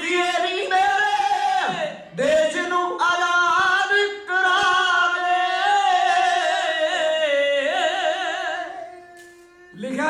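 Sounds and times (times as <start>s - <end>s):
men singing unaccompanied: 0.0s - 8.9s.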